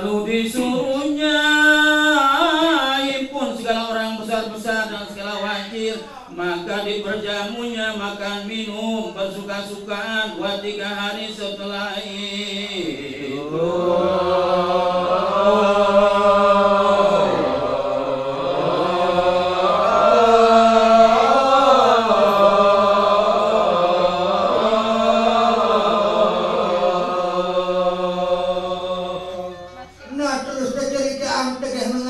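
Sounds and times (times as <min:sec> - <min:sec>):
man chanting unaccompanied: 0:00.0 - 0:26.3.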